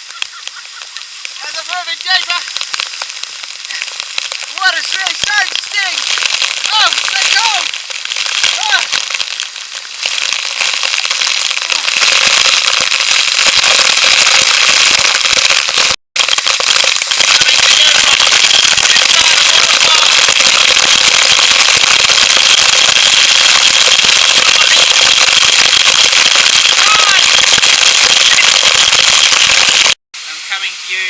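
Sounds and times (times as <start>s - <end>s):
water pounding on microphone: 0.0s - 30.0s.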